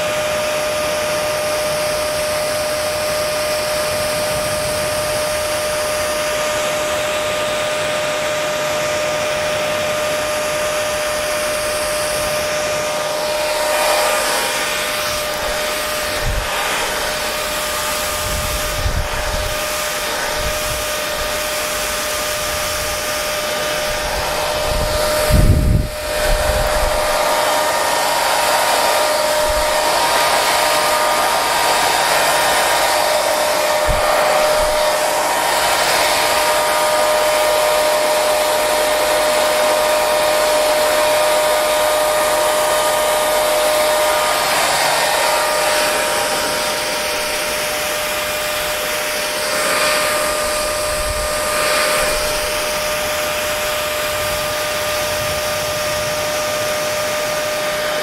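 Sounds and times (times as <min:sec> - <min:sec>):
hair dryer blowing air: 0:00.0 - 0:58.0.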